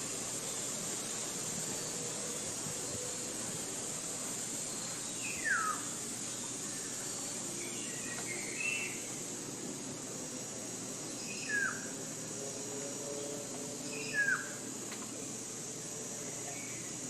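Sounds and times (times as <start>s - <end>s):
forest ambience hiss: 0.0s - 17.0s.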